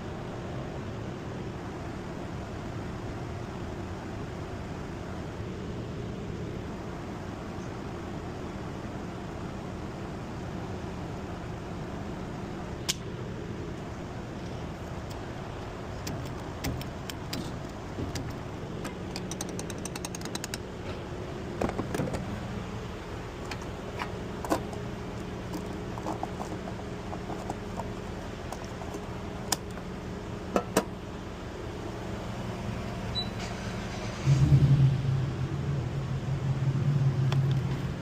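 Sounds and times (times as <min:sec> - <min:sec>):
road and cabin noise: 0:00.0 - 0:38.0.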